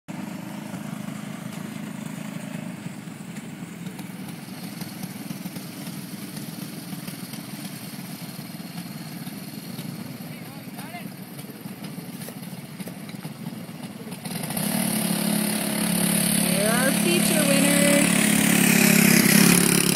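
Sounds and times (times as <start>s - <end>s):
go-kart engines humming: 0.1s - 19.9s.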